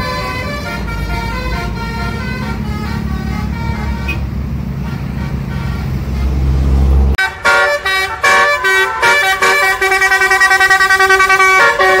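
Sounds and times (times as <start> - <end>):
engine rumble: 0.0 - 12.0
multi-tone bus horn melody: 0.0 - 12.0.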